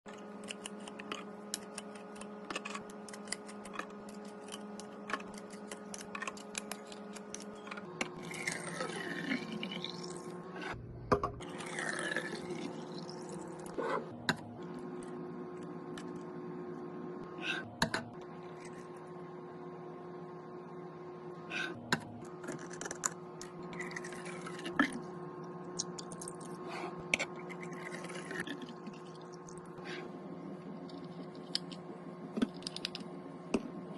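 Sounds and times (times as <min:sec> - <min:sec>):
steady hum: 0:00.1 - 0:33.9.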